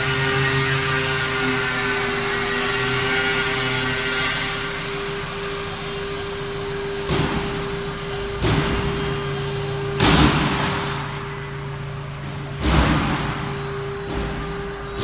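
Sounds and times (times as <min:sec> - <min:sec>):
hissing cutting noise: 0:00.0 - 0:15.0
loud cutting rasp: 0:00.0 - 0:15.0
router spindle high whine: 0:00.0 - 0:15.0.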